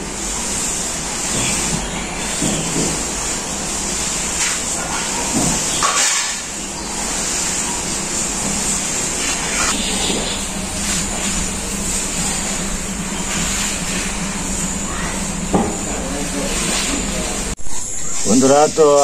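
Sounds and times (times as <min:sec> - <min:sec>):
steady hiss: 0:00.0 - 0:19.0
wet cloth wiping concrete floor: 0:00.5 - 0:17.5.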